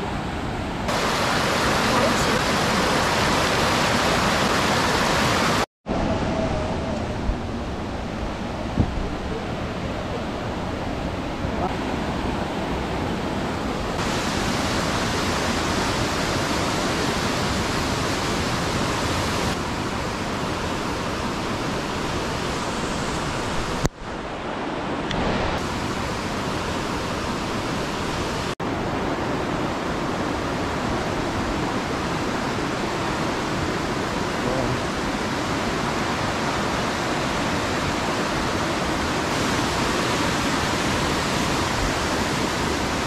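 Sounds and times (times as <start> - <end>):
stream rushing over rocks: 0.0 - 43.0.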